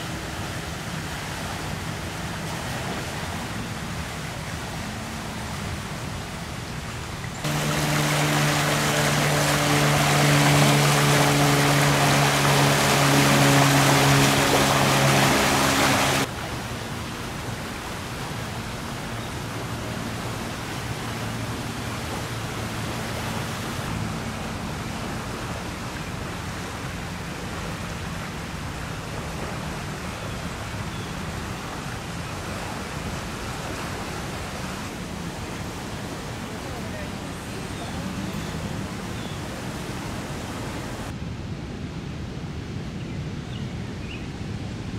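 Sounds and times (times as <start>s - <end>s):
engine hum: 0.0s - 41.2s
rushing floodwater: 0.0s - 41.6s.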